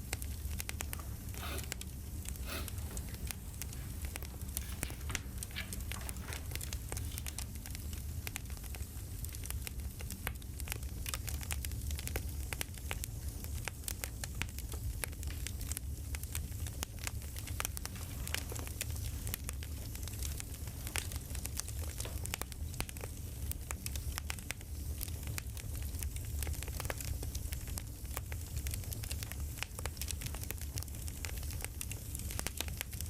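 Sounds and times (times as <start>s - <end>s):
campfire crackling: 0.0s - 33.0s
low fire rumble: 0.0s - 33.0s.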